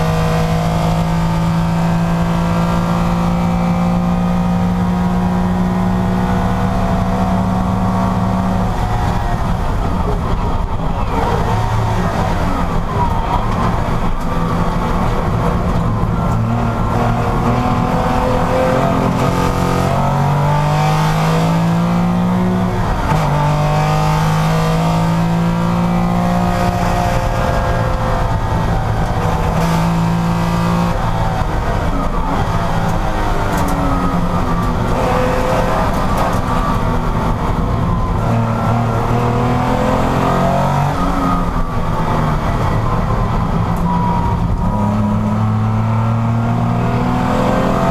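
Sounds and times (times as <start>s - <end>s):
racing car engine accelerating: 0.0s - 47.9s.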